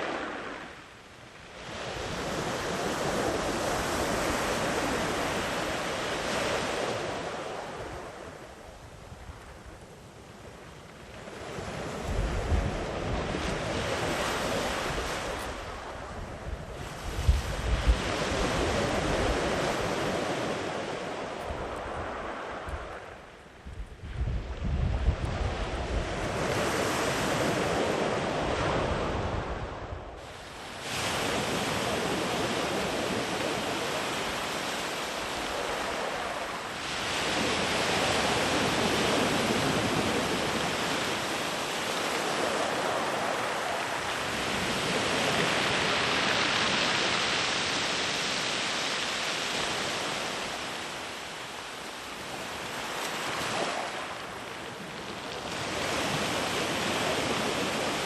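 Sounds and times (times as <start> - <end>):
sea waves breaking on beach: 0.0 - 58.0
wind rumbling on microphone: 0.0 - 58.0.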